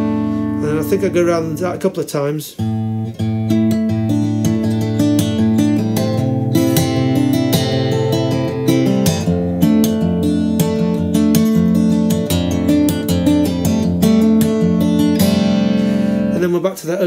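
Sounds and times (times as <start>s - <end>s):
acoustic guitar fingerstyle: 0.0s - 17.0s.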